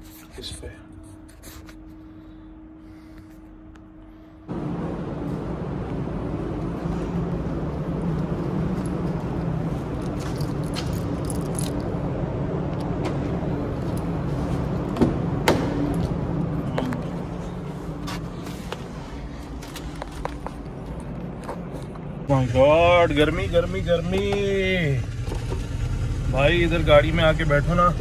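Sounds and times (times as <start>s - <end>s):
car running hum: 3.6s - 28.0s.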